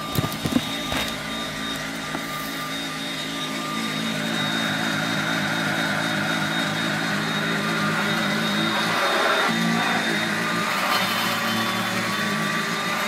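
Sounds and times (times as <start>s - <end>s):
upright vacuum cleaner running: 0.0s - 13.0s.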